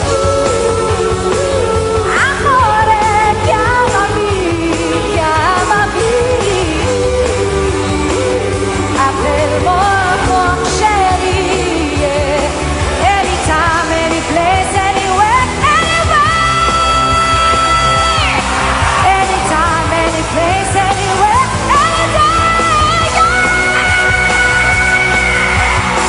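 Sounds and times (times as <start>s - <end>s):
woman singing pop: 0.0s - 18.4s, 19.0s - 25.8s
band playing: 0.0s - 26.0s.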